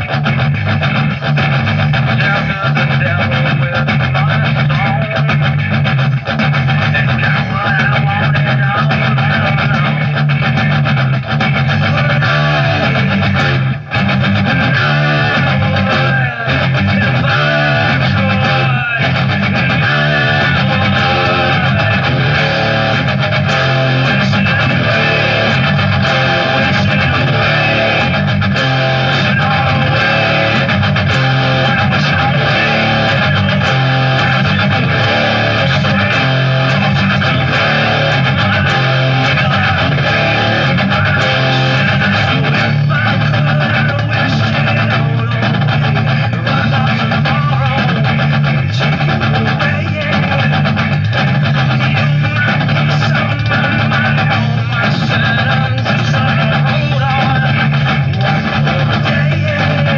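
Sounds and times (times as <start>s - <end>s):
distorted electric guitar: 0.0s - 59.9s
heavy rock band recording: 0.0s - 59.9s
repeating bass line: 0.0s - 59.9s.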